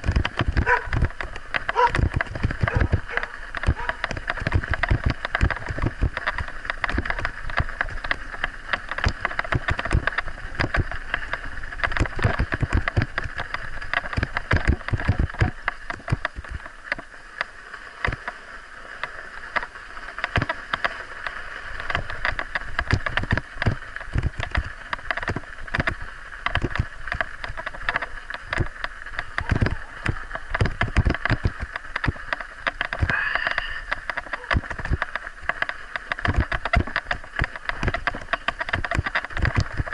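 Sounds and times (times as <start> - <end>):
bike knocks and rattles: 0.0 - 18.4, 19.0 - 39.9.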